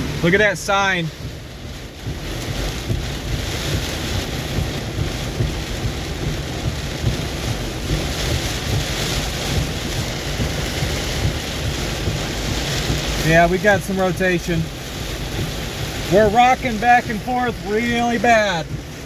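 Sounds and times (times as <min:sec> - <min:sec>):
heavy low rumble: 0:00.0 - 0:19.0
wind gusts buffeting microphone: 0:00.0 - 0:19.0.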